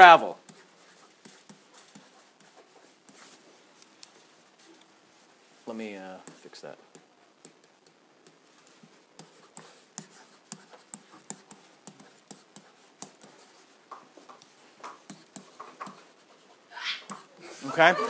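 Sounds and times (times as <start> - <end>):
pen writing on whiteboard: 0.4 - 4.3, 6.2 - 17.3.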